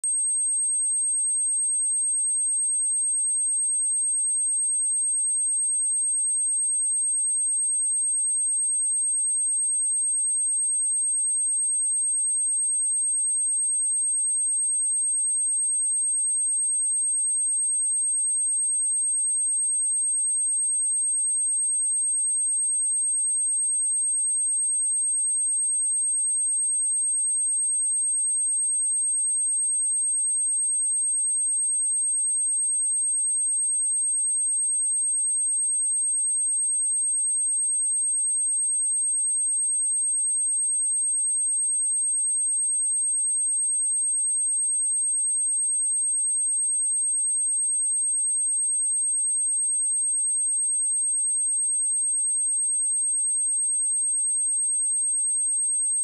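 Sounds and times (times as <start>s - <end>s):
high sine-wave test tone: 0.0s - 56.0s.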